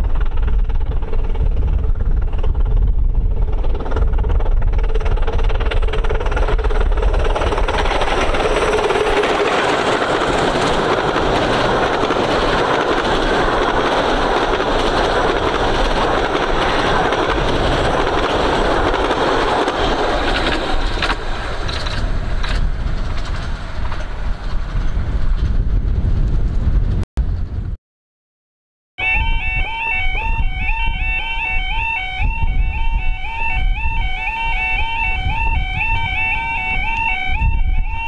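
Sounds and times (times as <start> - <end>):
miniature train running past: 0.0 - 25.5, 29.0 - 38.0.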